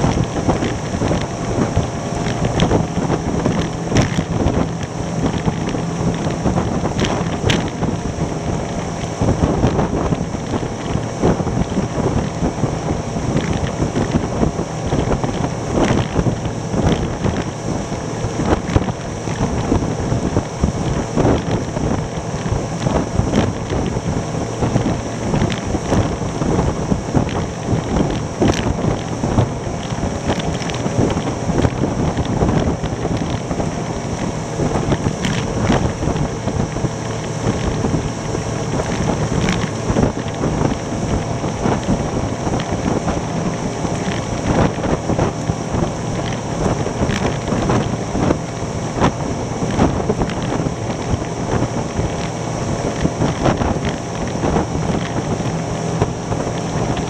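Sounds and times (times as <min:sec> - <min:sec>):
boat engine running: 0:00.0 - 0:57.0
hull thumping on waves: 0:00.0 - 0:57.0
wind buffeting microphone: 0:00.0 - 0:57.0.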